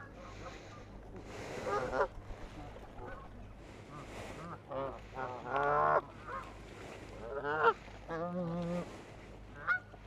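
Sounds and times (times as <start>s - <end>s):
geese honking: 0.0s - 0.9s, 1.5s - 6.6s, 7.2s - 8.9s, 9.5s - 10.0s.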